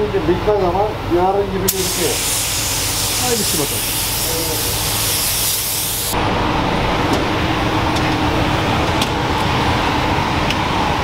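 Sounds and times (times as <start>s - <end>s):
machine hum with low rumble: 0.0s - 11.0s.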